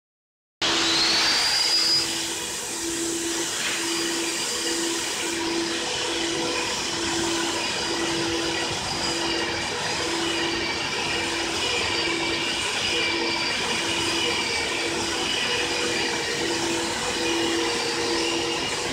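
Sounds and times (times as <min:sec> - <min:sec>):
vacuum cleaner motor whine: 0:00.6 - 0:18.9.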